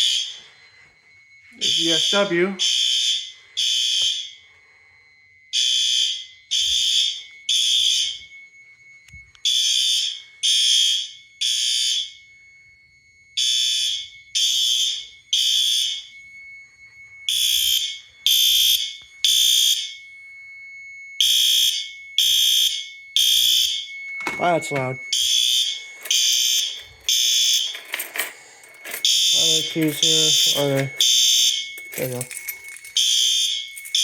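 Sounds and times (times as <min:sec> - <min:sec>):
faint steady high beep: 0:00.0 - 0:34.0
loud fire alarm horns blasting: 0:00.0 - 0:34.0.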